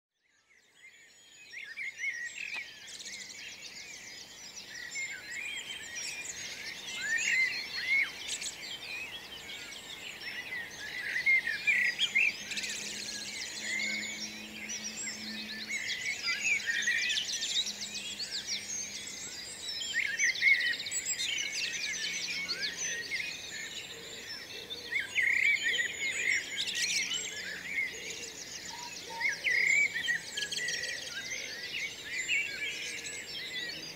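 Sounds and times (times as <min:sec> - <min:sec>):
songbirds chirping and whistling: 0:00.2 - 0:33.9.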